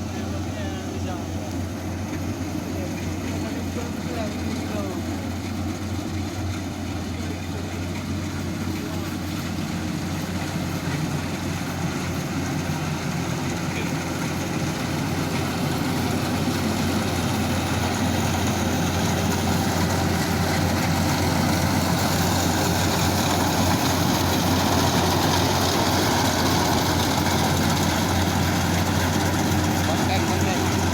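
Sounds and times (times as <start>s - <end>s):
combine harvester engine droning: 0.0s - 30.9s.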